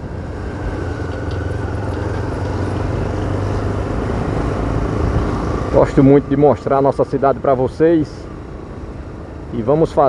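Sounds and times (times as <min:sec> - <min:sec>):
road noise: 0:00.0 - 0:10.0
vehicle engine hum: 0:00.0 - 0:10.0.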